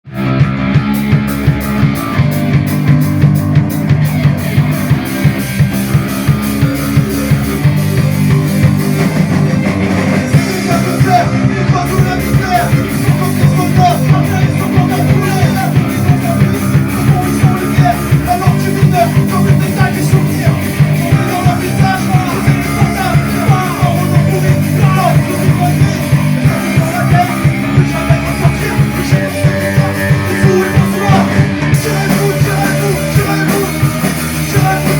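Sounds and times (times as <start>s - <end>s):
rock band playing live: 0.0s - 34.9s
driving drum beat: 0.1s - 34.9s.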